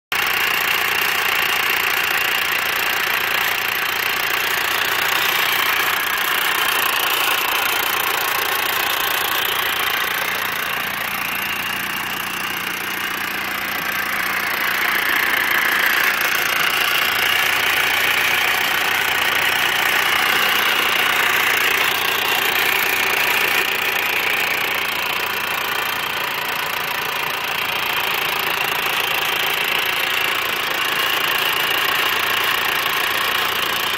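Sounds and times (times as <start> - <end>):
supercharged engine clattering: 0.1 - 33.9.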